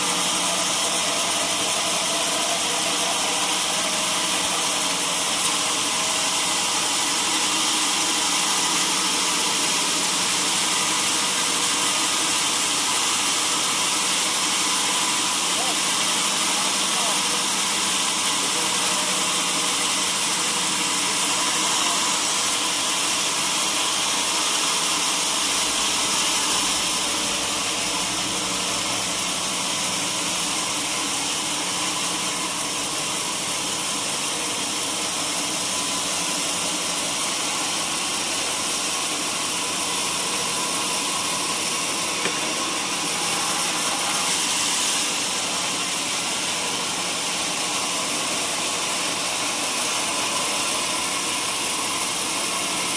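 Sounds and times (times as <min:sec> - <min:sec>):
sawmill saw cutting wood: 0:00.0 - 0:52.9.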